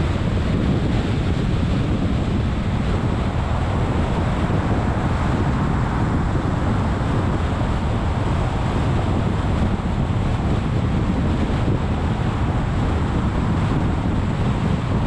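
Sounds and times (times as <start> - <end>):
wind buffeting microphone: 0.0 - 15.0
wind rush: 0.0 - 15.0.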